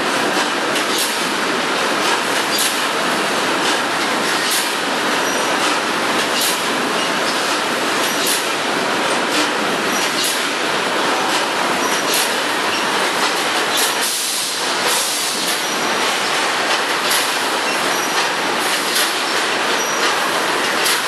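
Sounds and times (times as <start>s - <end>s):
packaging machines din: 0.0s - 21.0s.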